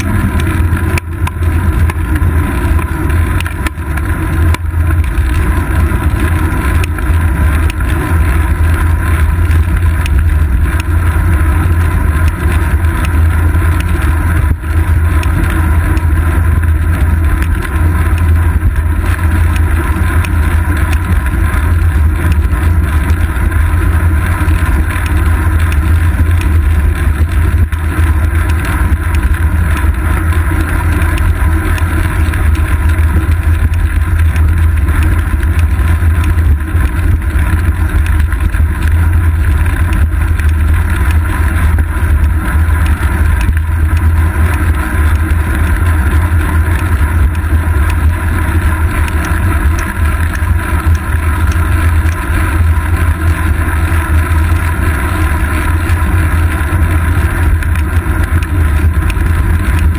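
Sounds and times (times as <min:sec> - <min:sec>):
road vibration rumble: 0:00.0 - 0:59.9
wind rumble: 0:00.0 - 0:59.9.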